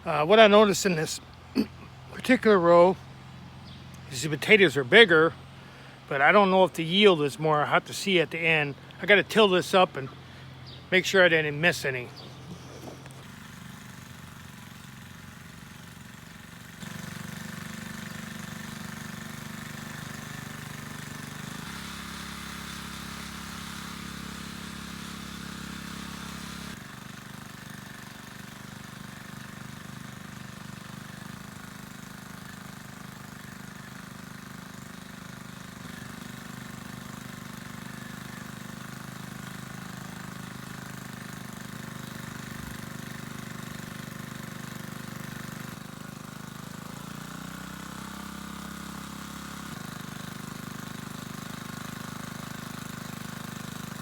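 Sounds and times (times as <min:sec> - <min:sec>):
garden tiller engine running: 0:00.0 - 0:54.0.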